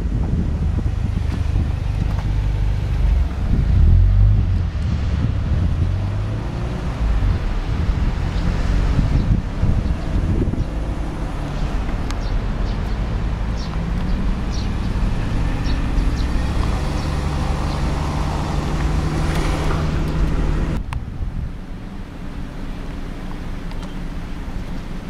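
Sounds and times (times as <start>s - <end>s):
wind noise: 0.0s - 22.1s
car engine hum: 0.0s - 25.0s.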